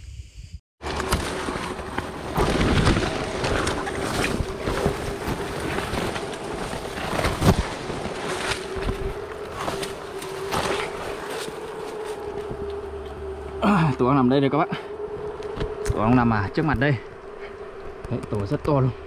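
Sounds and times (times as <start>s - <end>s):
leaves and branches rustling: 0.8s - 19.0s
steady hum: 0.8s - 19.0s.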